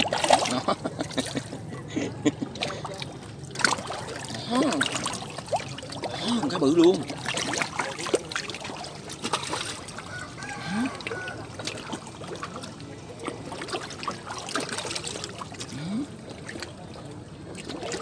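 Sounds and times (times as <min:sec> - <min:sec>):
fish splashing at water surface: 0:00.0 - 0:01.7, 0:02.4 - 0:18.0
fish gulping: 0:00.0 - 0:18.0
trickling water: 0:00.0 - 0:18.0.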